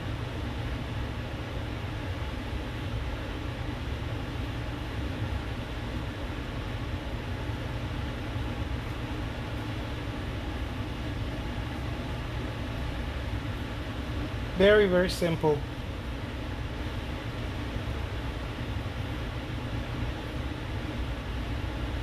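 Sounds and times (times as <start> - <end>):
air conditioner hum: 0.0 - 22.0.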